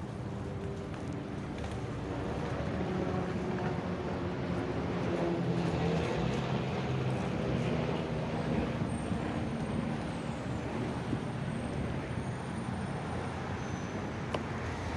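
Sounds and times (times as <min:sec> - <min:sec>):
e-bike riding on asphalt: 0:00.0 - 0:14.9
street traffic: 0:00.0 - 0:14.9.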